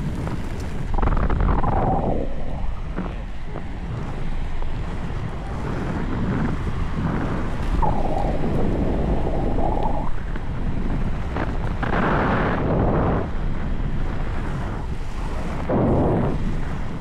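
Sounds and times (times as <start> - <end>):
skate wheels rolling on asphalt: 0.0 - 17.0
wind buffeting microphone: 0.0 - 17.0.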